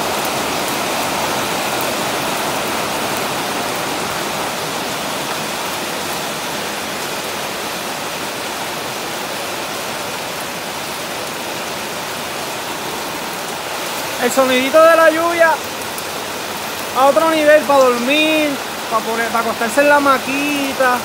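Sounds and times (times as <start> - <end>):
heavy rain on metal roof: 0.0 - 21.0.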